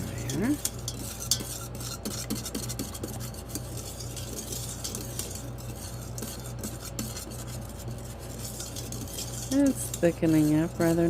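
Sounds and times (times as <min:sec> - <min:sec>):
steady low hum: 0:00.0 - 0:11.0
utensil scraping metal pot: 0:00.0 - 0:11.0.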